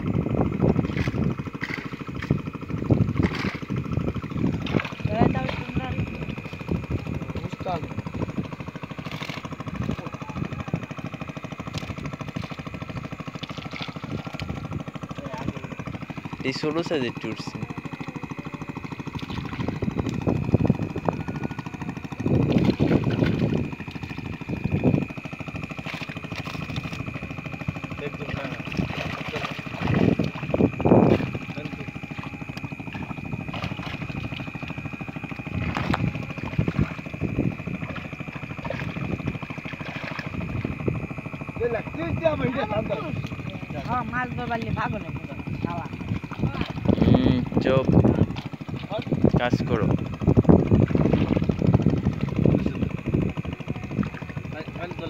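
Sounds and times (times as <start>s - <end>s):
continuous high tone: 0.0s - 55.0s
pulsing low drone: 0.0s - 55.0s
small engine idling: 0.0s - 55.0s
water splashing and sloshing: 0.0s - 55.0s.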